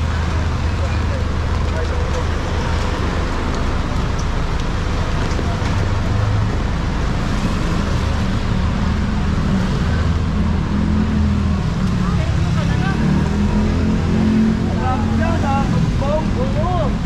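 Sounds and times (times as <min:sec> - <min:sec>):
wet road noise: 0:00.0 - 0:17.0.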